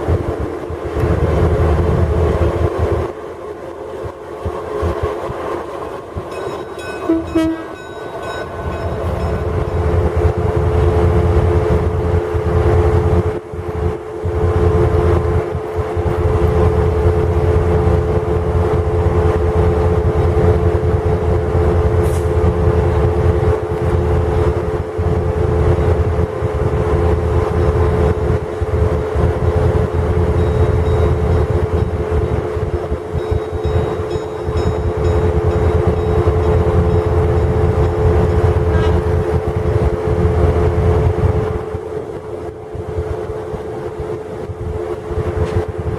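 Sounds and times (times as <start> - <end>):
diesel locomotive rumbling: 0.0 - 45.9.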